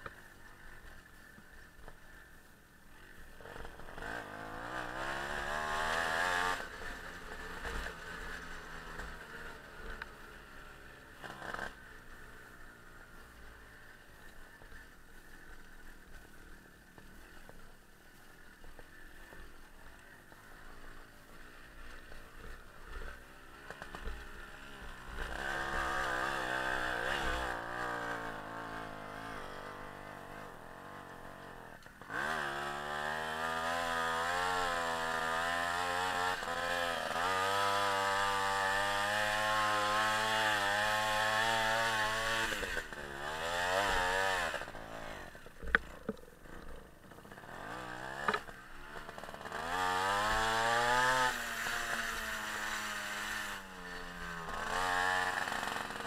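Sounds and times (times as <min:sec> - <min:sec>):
two-stroke motorbike engine revving: 0:03.0 - 0:14.0, 0:20.5 - 0:56.0.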